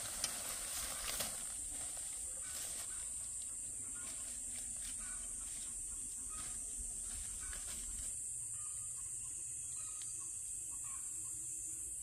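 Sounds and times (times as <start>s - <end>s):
insects humming: 0.0s - 12.0s.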